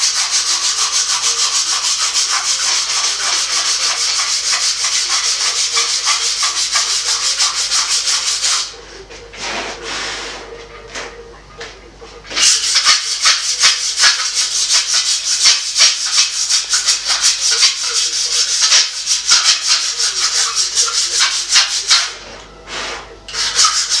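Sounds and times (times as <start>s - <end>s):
wire brush scrubbing steel blade: 0.0s - 8.7s, 12.4s - 22.2s, 23.3s - 24.0s.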